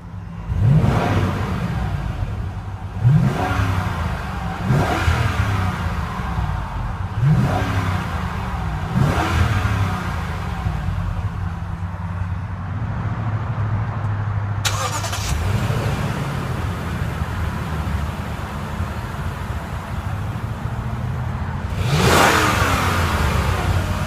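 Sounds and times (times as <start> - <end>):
engine revving then idling: 0.5 - 11.4, 14.7 - 21.1, 21.7 - 24.0.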